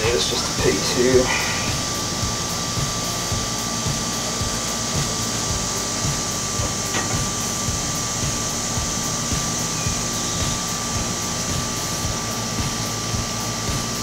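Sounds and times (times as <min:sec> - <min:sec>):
soft low thumps: 0:00.0 - 0:13.9
high whine: 0:00.0 - 0:14.0
mechanical drone and hiss: 0:00.0 - 0:14.0.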